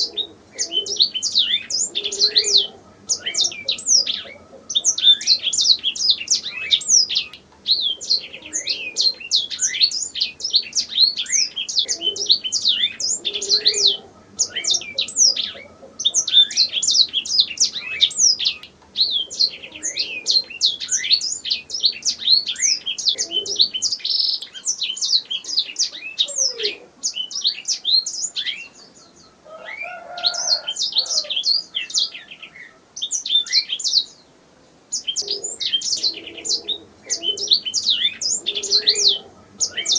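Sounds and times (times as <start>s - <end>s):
canary singing trills: 0.0s - 34.3s, 34.9s - 39.9s.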